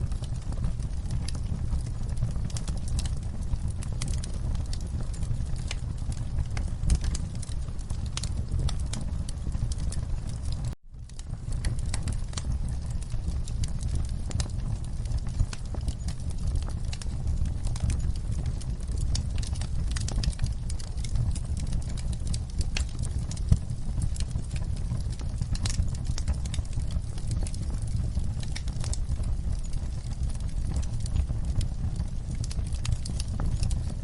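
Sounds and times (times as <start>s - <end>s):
fireplace fire crackling: 0.0s - 34.0s.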